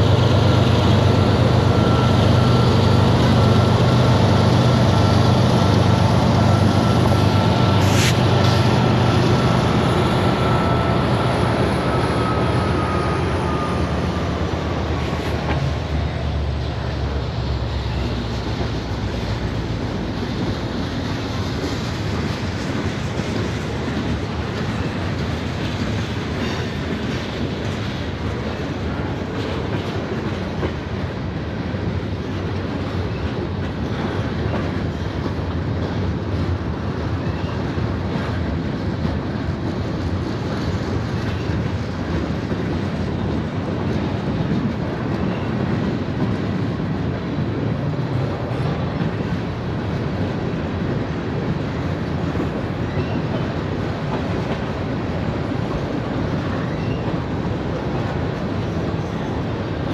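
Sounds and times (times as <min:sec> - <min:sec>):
train cars rumbling on rails: 0:00.0 - 0:59.9.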